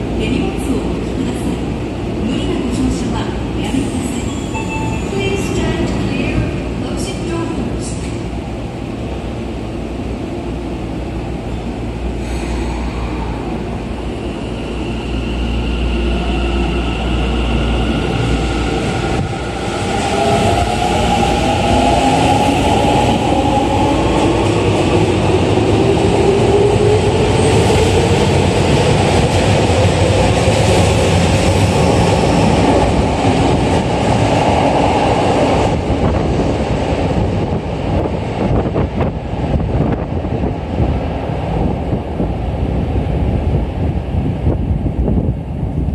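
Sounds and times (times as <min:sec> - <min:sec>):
wheels rumbling on rail: 0:00.0 - 0:45.9.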